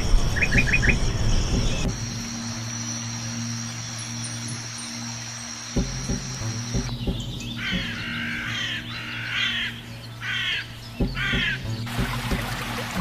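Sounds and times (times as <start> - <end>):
background music with drone and beat: 0.0 - 13.0
harsh bird calls: 0.0 - 13.0.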